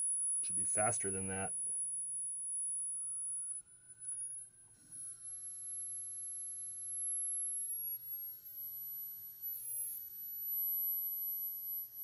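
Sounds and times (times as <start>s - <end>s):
high-pitched tv whine: 0.0s - 12.0s.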